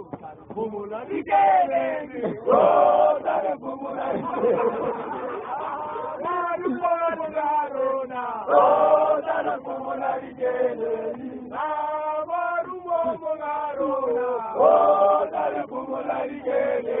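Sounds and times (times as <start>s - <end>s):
men chanting and singing: 0.0s - 17.0s.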